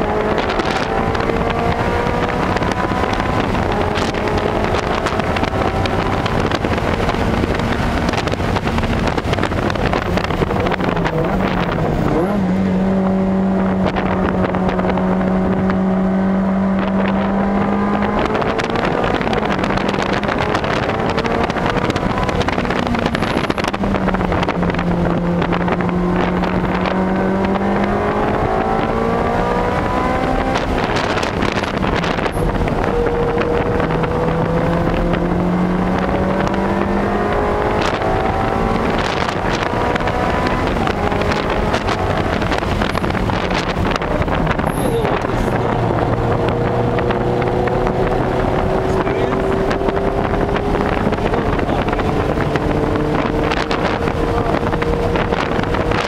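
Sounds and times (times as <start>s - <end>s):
sports car engine: 0.0s - 56.0s.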